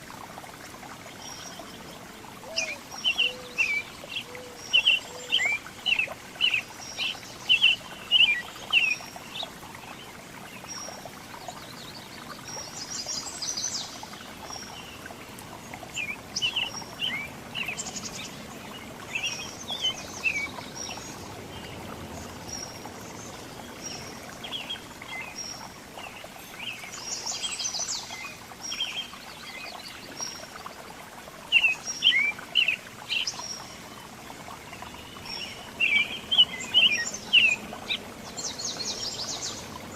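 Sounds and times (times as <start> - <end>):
songbirds chirping: 0.1 - 39.9.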